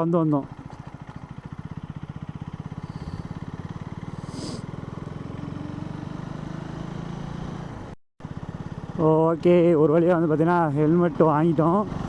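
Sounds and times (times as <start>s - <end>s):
motorcycle engine idling: 0.3s - 12.0s.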